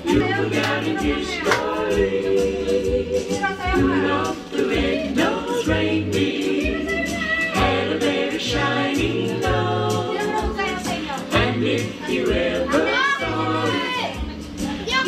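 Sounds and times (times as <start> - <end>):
voices singing a song: 0.0 - 15.0.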